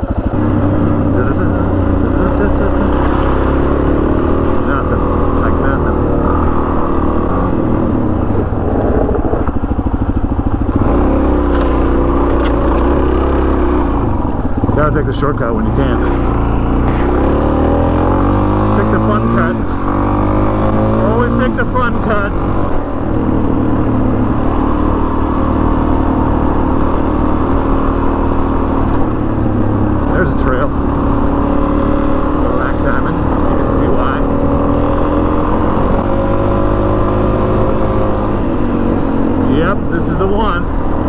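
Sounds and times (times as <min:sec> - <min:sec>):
motorcycle engine chugging: 0:00.0 - 0:41.0.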